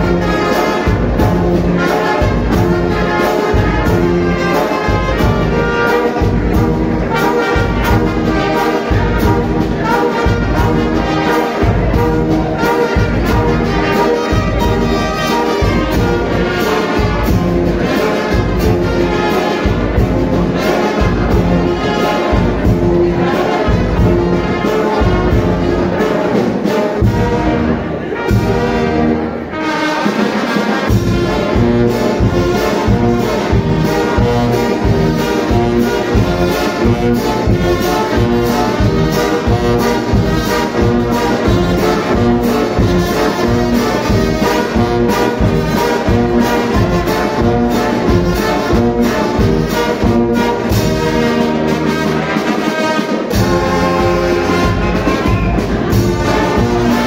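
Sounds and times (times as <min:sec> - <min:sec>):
snare and bass drum beat: 0:00.0 - 0:29.4, 0:30.0 - 0:57.0
brass band playing: 0:00.0 - 0:57.0.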